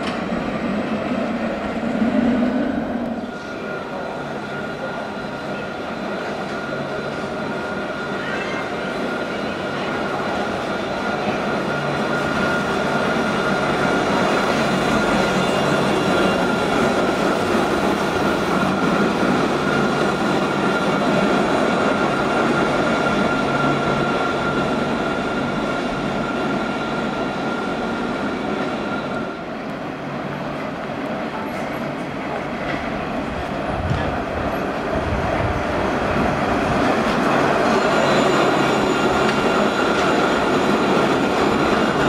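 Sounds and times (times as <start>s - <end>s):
tram high whine: 0.0s - 42.0s
tram wheels rolling: 5.4s - 42.0s.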